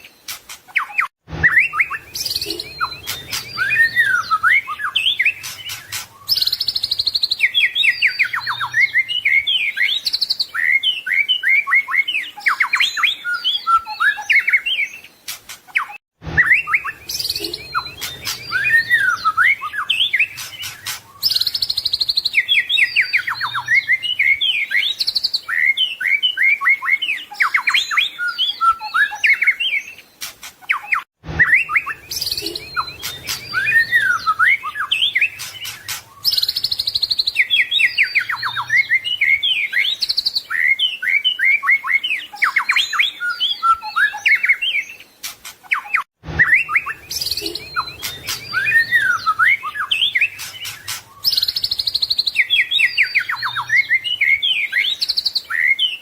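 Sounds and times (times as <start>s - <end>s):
songbird whistles and trills: 0.0s - 56.0s.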